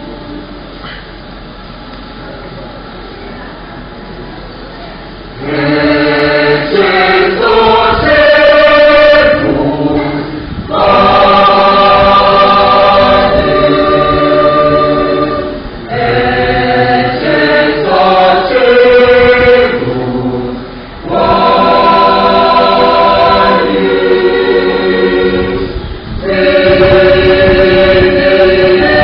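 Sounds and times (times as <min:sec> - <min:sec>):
choir singing in harmony: 0:05.2 - 0:29.0.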